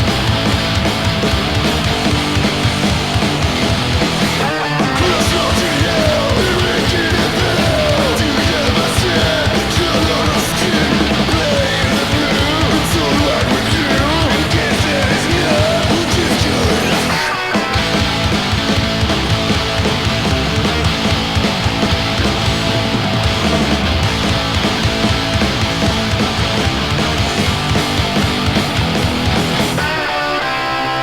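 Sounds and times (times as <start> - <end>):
punk rock song from vinyl: 0.0 - 31.0.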